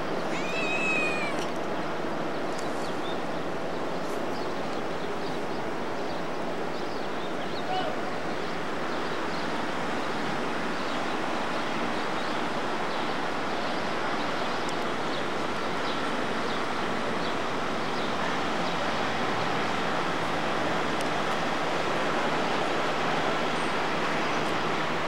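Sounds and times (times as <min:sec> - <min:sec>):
city traffic roar: 0:00.0 - 0:25.0.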